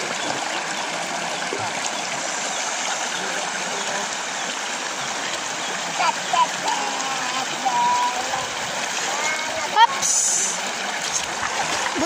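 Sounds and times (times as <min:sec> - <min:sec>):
river running over rocks: 0:00.0 - 0:12.0.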